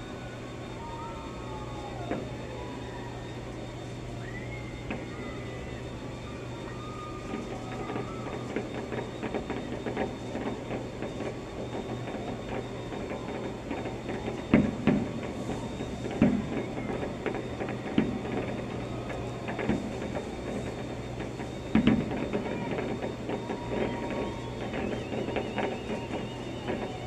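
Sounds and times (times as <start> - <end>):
steady low hum: 0.0 - 27.0
faint firework crackles: 0.8 - 27.0.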